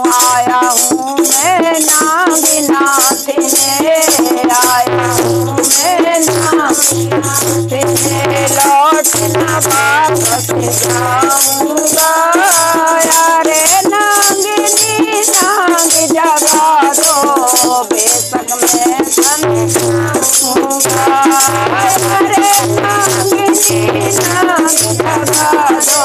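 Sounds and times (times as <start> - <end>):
rattle-like percussion: 0.0 - 26.0
women singing devotional song: 0.0 - 26.0.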